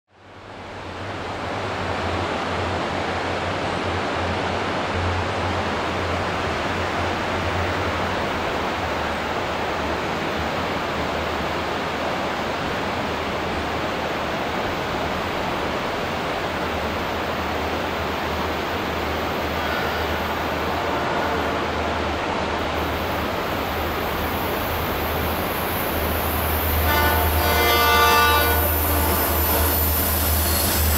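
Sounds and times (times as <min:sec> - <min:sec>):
river rushing: 0:00.2 - 0:30.9.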